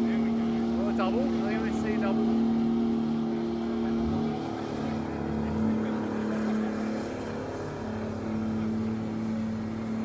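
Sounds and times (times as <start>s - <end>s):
diesel engine at high revs: 0.0s - 10.0s.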